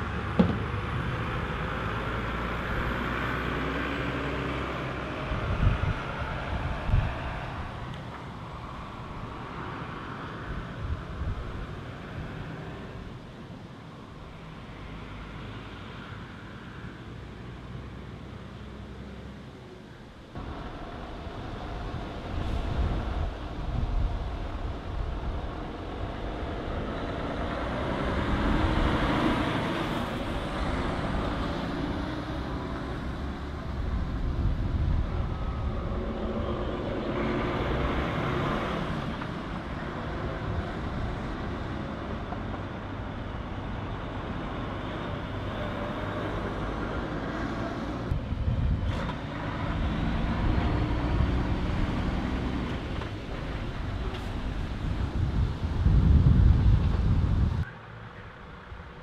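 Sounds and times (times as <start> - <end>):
heavy trucks driving past: 0.0 - 59.0.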